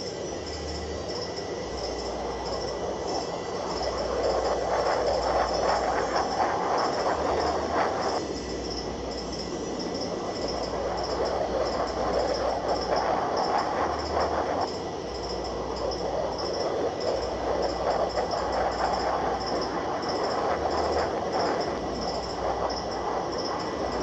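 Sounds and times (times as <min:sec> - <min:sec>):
fighter jets taking off: 0:00.0 - 0:24.0.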